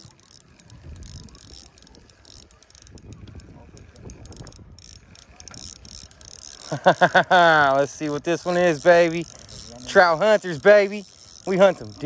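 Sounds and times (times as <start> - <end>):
fishing reel whirring and clicking: 0.0 - 12.0.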